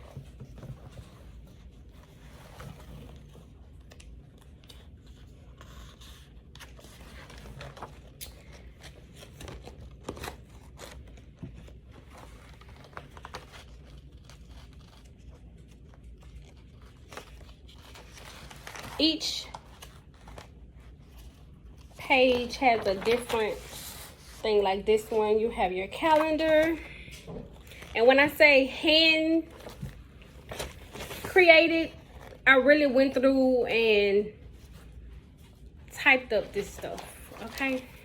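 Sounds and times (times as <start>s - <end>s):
paper pages rustling: 0.0s - 33.2s, 34.3s - 38.0s.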